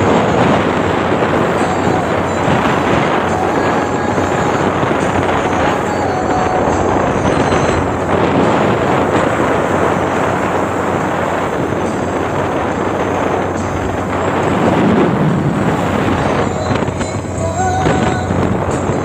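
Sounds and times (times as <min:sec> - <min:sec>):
outboard motor running: 0:00.0 - 0:19.0
wind buffeting microphone: 0:00.0 - 0:19.0.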